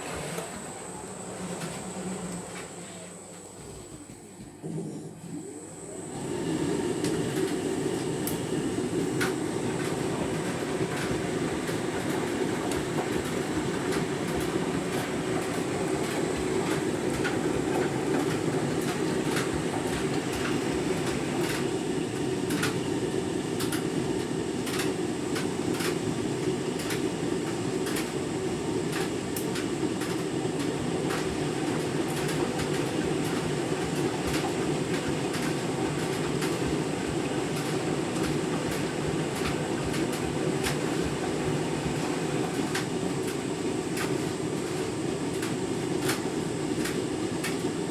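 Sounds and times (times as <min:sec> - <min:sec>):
washing machine drum rumble: 0:06.2 - 0:47.9.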